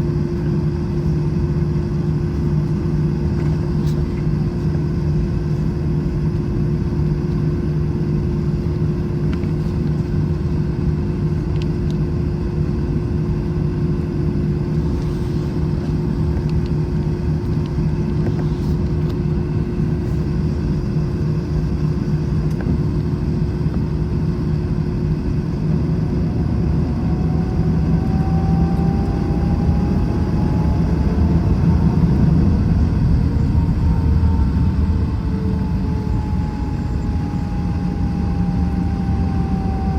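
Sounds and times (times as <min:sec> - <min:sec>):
aircraft cabin rumble: 0:00.0 - 0:39.9
jet engines spooling up whine: 0:00.0 - 0:39.9.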